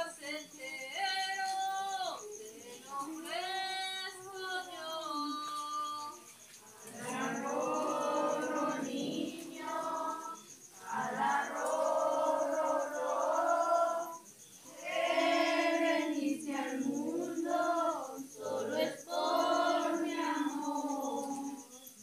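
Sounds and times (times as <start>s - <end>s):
group singing in unison: 0.0s - 21.8s.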